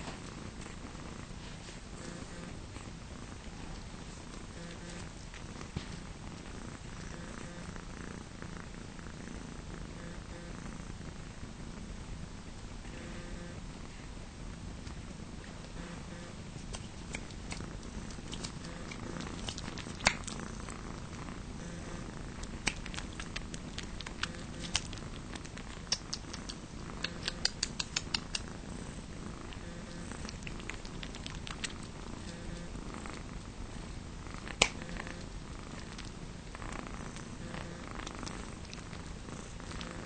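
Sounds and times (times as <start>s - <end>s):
cats purring: 0.0s - 40.0s.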